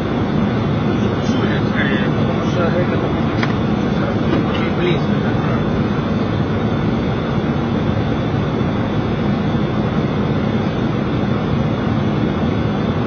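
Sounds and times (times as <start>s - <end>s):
airflow rushing over cockpit: 0.0s - 13.0s.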